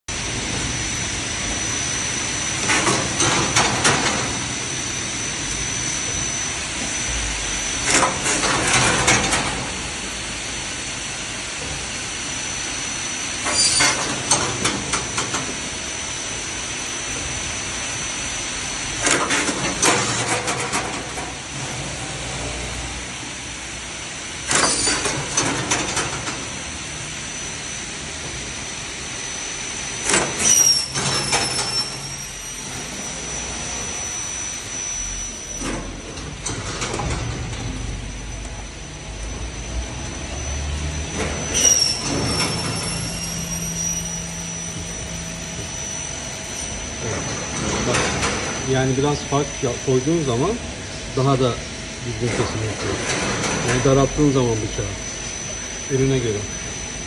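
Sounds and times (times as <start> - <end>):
machine hum and high whine: 0.1 - 57.0.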